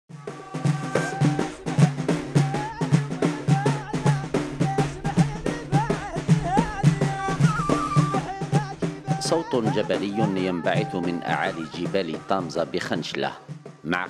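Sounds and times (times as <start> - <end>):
reed flute melody: 0.1 - 12.3
frame drums beating: 0.1 - 14.0.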